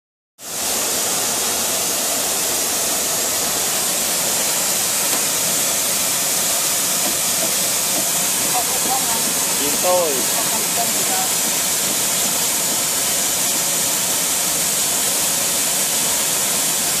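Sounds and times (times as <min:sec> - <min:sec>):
gas hissing through a valve: 0:00.4 - 0:17.0.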